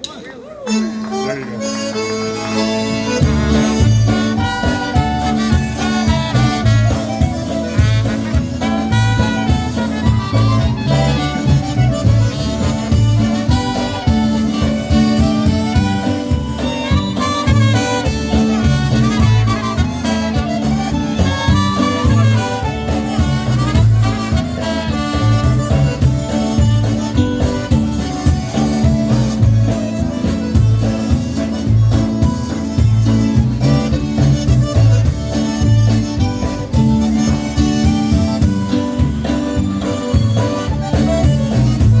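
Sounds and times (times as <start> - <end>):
accordion melody: 0.0 - 42.0
polka band playing: 0.0 - 42.0
horn melody: 0.7 - 42.0
oom-pah bass beat: 2.3 - 42.0.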